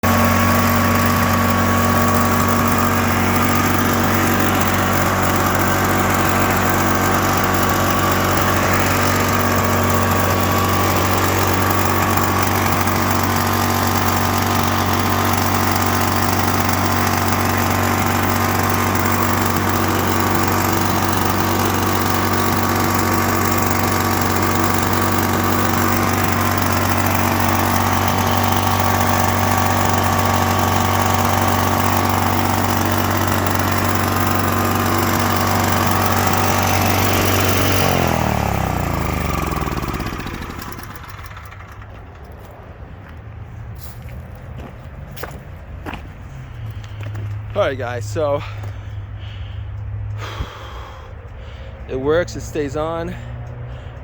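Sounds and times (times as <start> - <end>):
generator engine running: 0.0 - 54.0.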